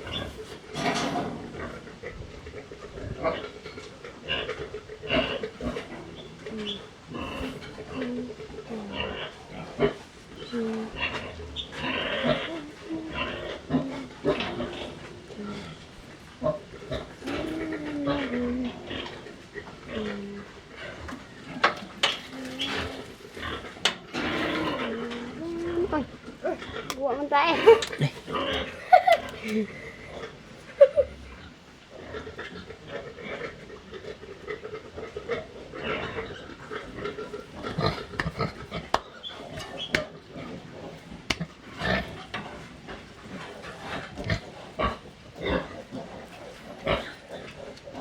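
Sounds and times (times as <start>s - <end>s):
farm animals calling: 0.0s - 42.4s
pigs grunting: 0.0s - 48.0s.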